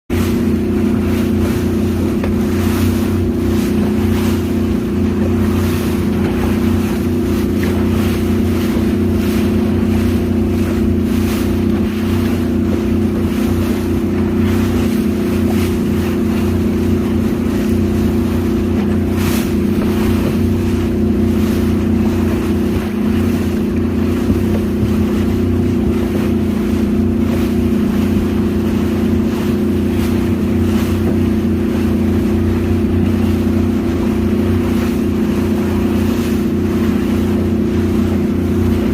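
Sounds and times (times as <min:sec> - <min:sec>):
boat engine droning: 0:00.1 - 0:38.9
water rushing past hull: 0:00.1 - 0:38.9.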